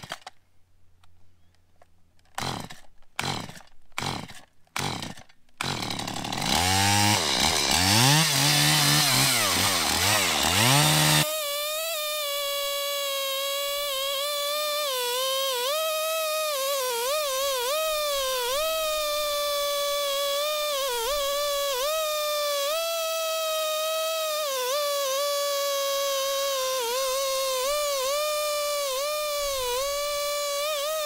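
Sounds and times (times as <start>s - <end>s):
chainsaw pull-start: 0.0s - 0.4s, 2.2s - 31.0s
chainsaw engine revving: 2.4s - 31.0s.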